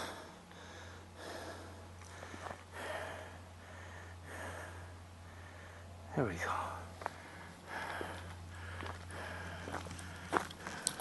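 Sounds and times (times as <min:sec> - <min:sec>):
low hum: 0:00.0 - 0:11.0
person breathing: 0:00.0 - 0:11.0.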